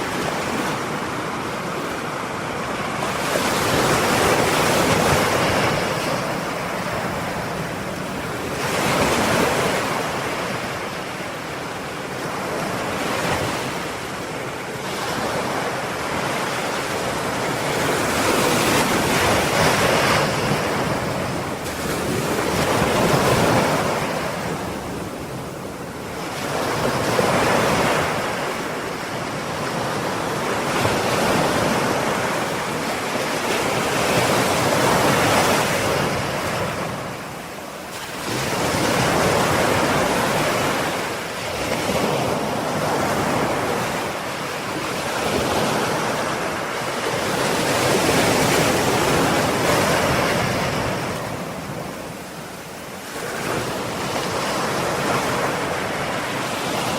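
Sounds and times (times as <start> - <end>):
ocean waves breaking on shore: 0.0 - 56.9.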